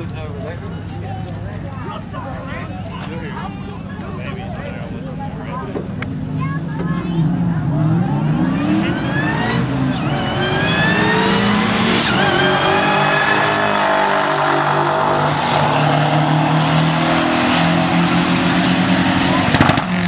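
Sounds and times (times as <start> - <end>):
drag racing cars revving: 3.2 - 20.0.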